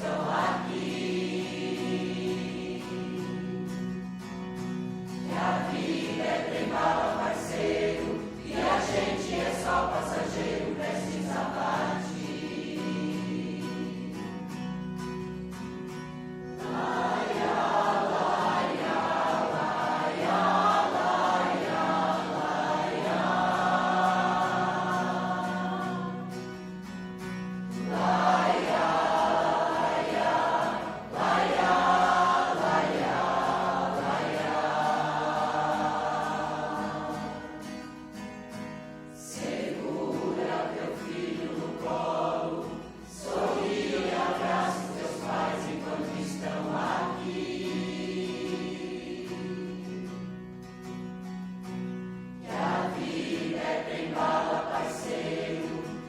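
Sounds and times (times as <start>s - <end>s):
choir singing: 0.0s - 38.2s, 39.1s - 51.0s, 52.3s - 56.0s.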